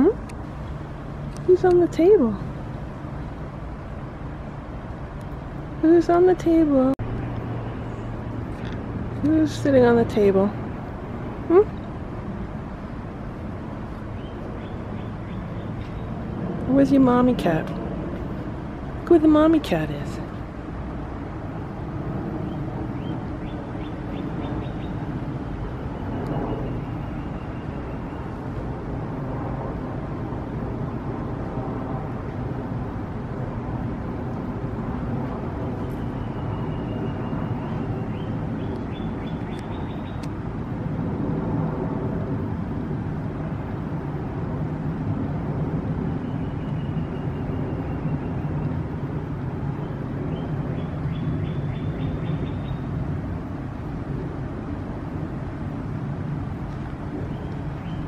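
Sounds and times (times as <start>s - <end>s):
low outdoor background rumble: 0.0s - 58.0s.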